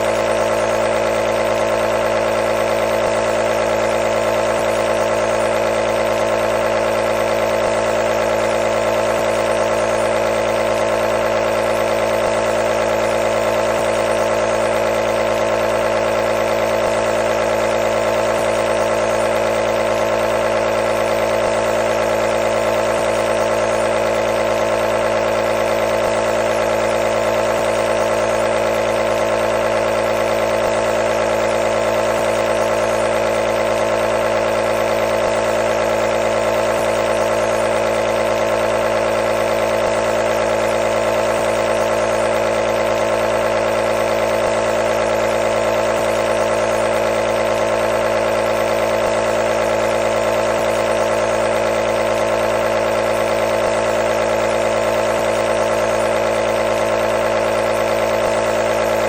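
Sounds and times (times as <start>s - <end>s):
compressor motor humming: 0.0s - 59.0s.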